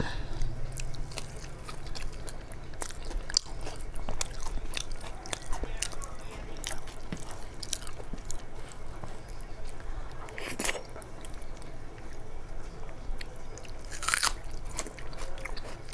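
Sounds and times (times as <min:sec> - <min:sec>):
person chewing food: 0:00.0 - 0:15.9.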